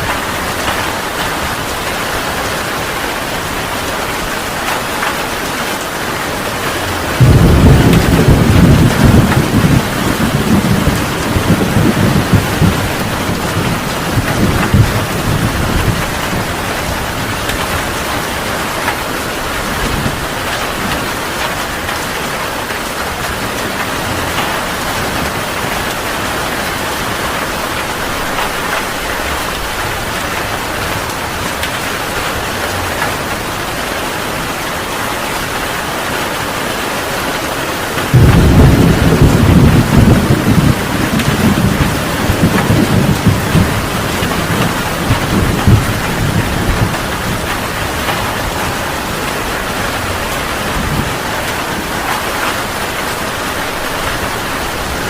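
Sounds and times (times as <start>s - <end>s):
thunder rumbling: 0.0s - 34.9s, 37.9s - 55.0s
heavy rain falling: 0.0s - 55.0s.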